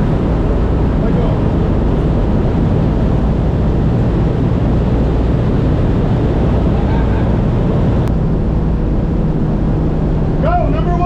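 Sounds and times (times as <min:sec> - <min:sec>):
propeller plane engines droning: 0:00.0 - 0:11.0.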